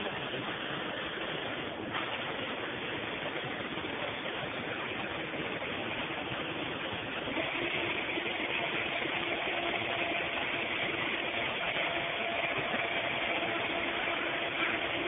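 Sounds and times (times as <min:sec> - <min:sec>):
industrial machinery droning: 0:00.0 - 0:15.0.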